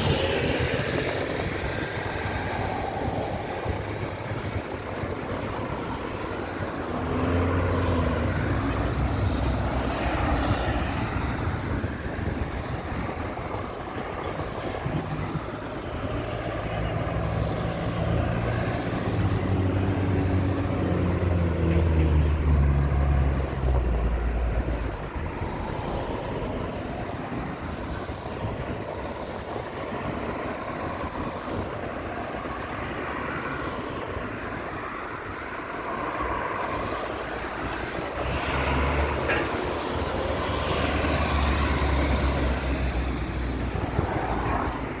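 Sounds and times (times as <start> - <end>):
cars passing: 0.0 - 45.0
heavy vehicle engines rumbling: 0.0 - 45.0.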